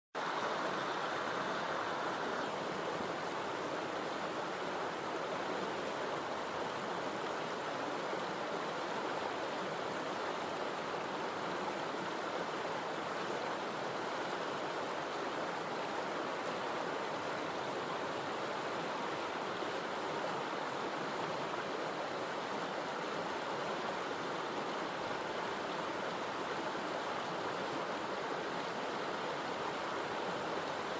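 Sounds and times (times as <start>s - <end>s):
flowing water rushing: 0.2s - 30.9s.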